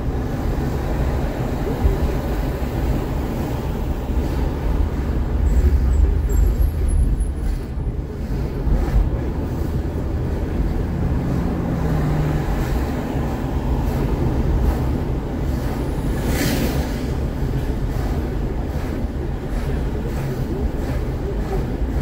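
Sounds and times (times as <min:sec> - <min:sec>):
car road noise rumble: 0:00.0 - 0:22.0.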